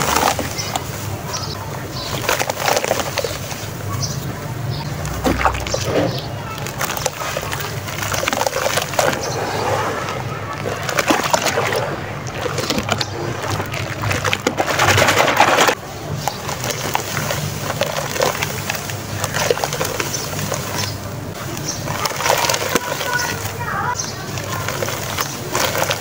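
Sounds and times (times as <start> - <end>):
hands sloshing wet sand in water: 0.0 - 26.0
sand crumbling into water: 0.0 - 26.0.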